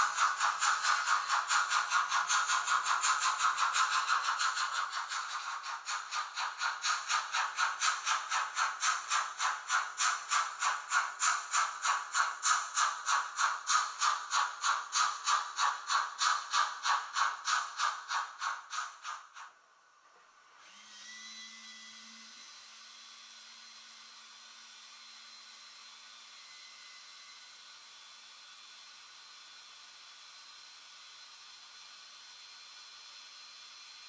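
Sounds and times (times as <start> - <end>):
model steam locomotive chuffing: 0.0 - 19.8, 20.6 - 34.0.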